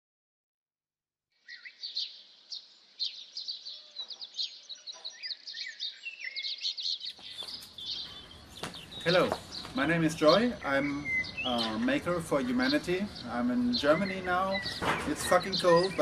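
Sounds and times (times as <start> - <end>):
small birds chirping: 1.4 - 16.0.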